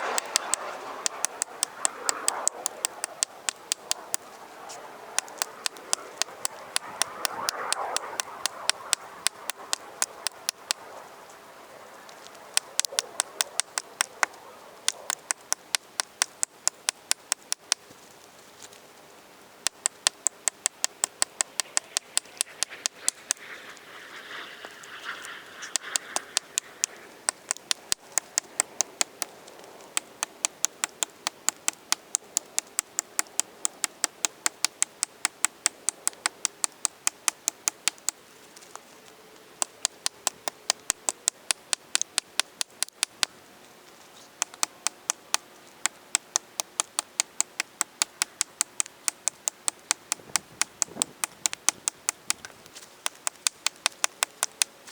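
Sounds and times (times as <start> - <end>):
rapid axe chopping clicks: 0.0 - 11.0, 12.0 - 17.9, 19.6 - 43.4, 44.3 - 54.9.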